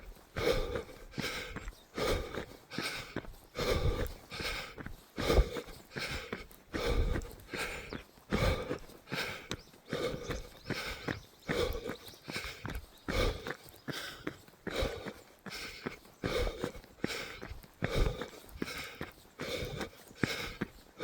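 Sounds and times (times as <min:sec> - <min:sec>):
runner breathing hard: 0:00.0 - 0:21.0.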